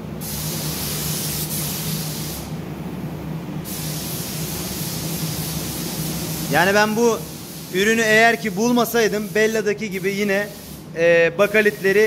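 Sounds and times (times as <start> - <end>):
spray gun hissing: 0.0 - 2.6, 3.6 - 12.0
steady low hum: 0.0 - 11.9.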